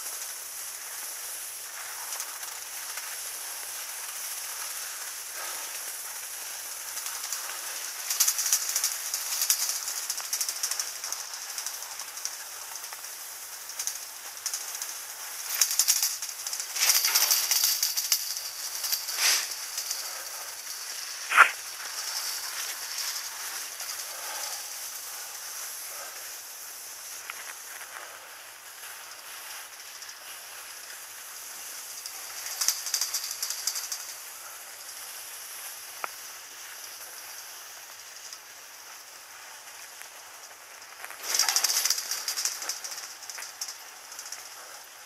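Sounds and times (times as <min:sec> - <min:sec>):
skis hissing on snow: 0:00.0 - 0:45.0
skis scraping and rattling: 0:00.0 - 0:45.0.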